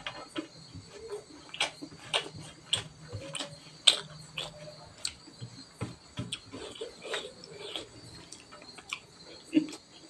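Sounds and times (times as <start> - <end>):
chewing and mouth clicks: 0.4 - 10.0.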